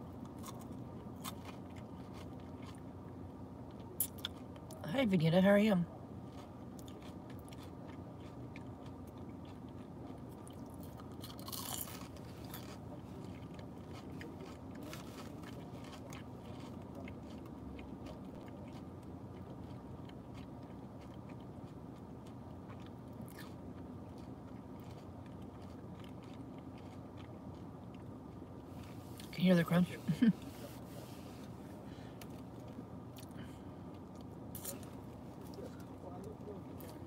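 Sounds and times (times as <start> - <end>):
crunchy chewing: 0.0 - 4.8, 6.0 - 29.4, 30.0 - 37.0.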